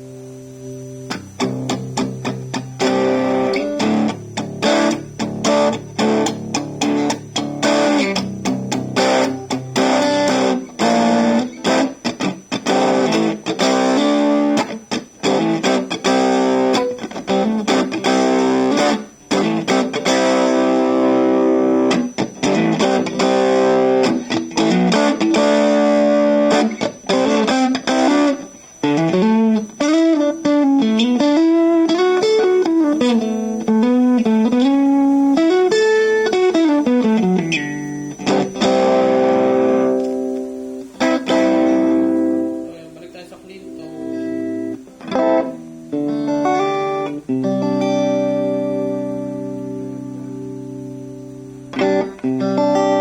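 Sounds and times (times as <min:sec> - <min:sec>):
distorted keyboard chords: 0:00.0 - 0:53.0.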